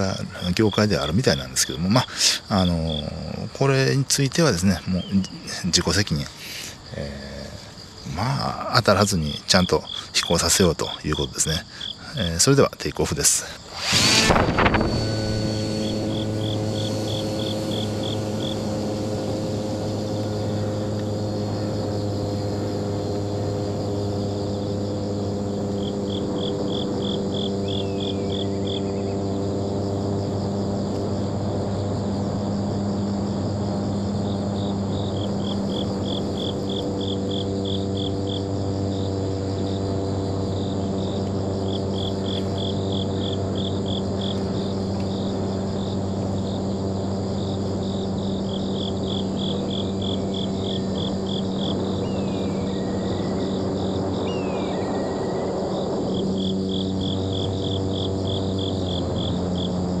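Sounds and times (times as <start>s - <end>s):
insects chirping: 0.0s - 60.0s
steady low hum: 0.0s - 60.0s.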